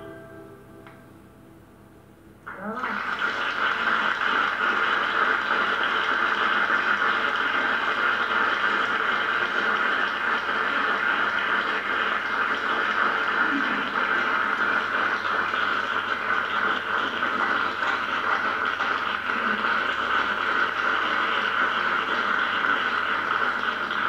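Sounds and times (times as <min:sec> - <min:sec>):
audience applauding: 0:02.5 - 0:24.0.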